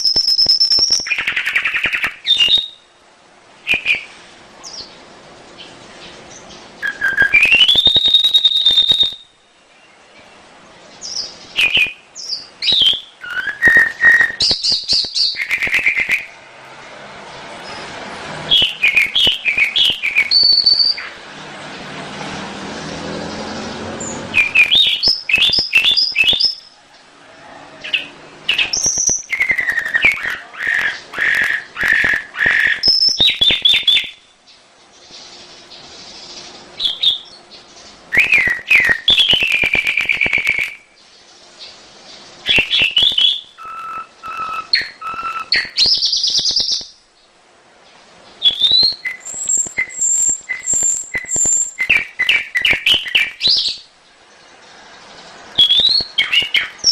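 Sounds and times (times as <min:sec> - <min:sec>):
canary singing: 0:00.0 - 0:03.0, 0:03.6 - 0:16.5, 0:17.3 - 0:22.0, 0:22.8 - 0:47.4, 0:48.2 - 0:56.9.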